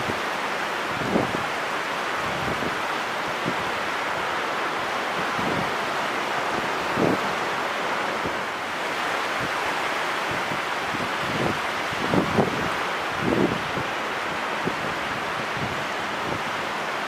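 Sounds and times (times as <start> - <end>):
wind buffeting microphone: 0.0 - 16.6
ocean surf on beach: 0.0 - 17.0.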